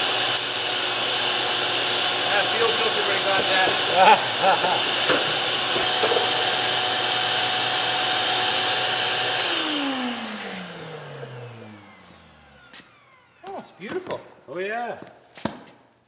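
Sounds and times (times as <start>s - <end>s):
vacuum motor spinning down: 0.0s - 14.4s
vacuum cleaner running: 0.0s - 15.1s.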